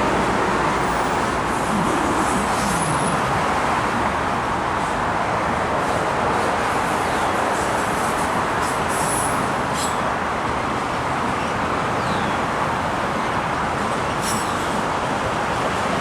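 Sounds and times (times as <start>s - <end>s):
train wheels on rail: 0.0s - 11.3s, 13.7s - 16.0s.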